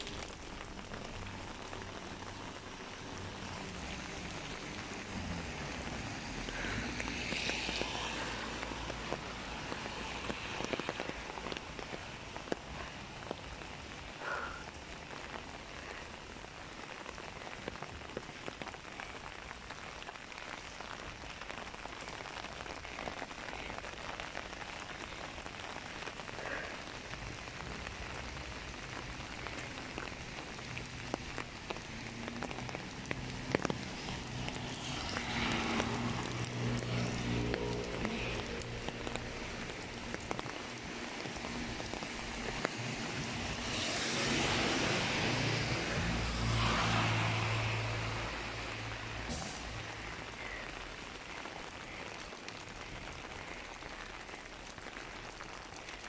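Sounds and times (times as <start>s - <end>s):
rain falling: 0.0s - 56.0s
raindrops ticking on umbrella: 0.0s - 56.0s.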